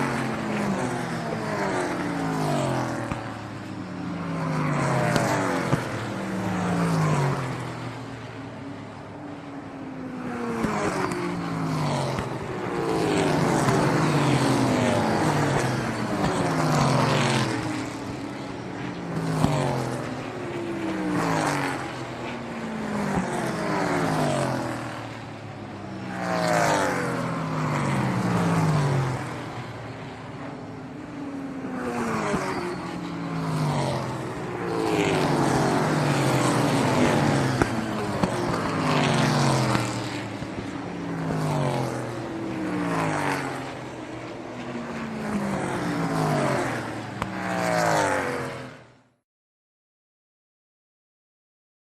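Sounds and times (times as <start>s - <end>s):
racing cars speeding past: 0.0s - 8.2s, 9.3s - 48.9s.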